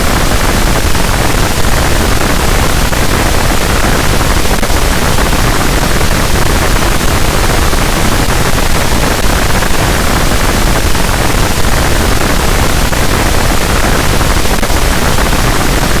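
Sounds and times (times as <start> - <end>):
dense distorted static noise: 0.0 - 16.0.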